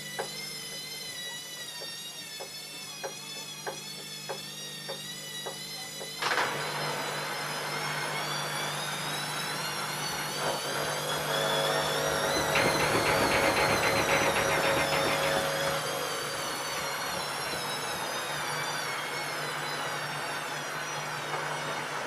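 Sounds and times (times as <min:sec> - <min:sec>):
washing machine whine: 0:00.0 - 0:22.0.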